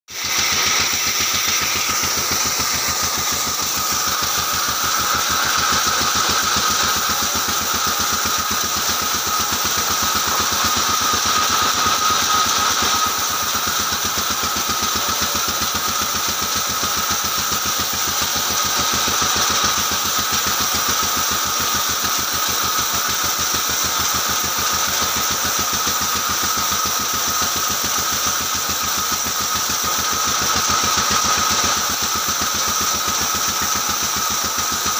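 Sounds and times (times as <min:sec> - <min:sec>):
band saw cutting timber: 0:00.1 - 0:34.9.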